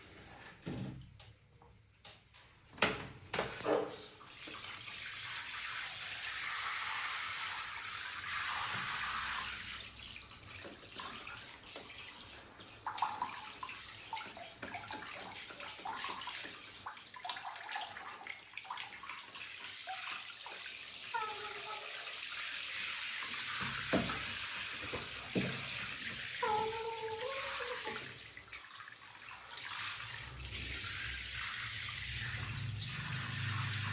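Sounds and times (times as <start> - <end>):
tap water running into basin: 3.4 - 33.9.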